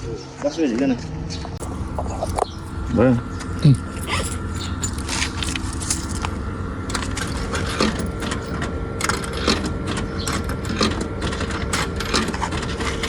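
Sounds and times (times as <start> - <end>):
vending machine humming: 0.0 - 13.0
coins and dispensing mechanism clicking: 1.6 - 2.8, 3.6 - 13.0.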